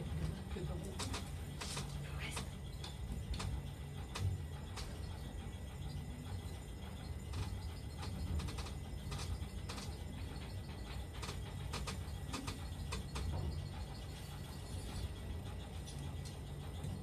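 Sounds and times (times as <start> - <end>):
funicular cabin rumbling: 0.0 - 17.0.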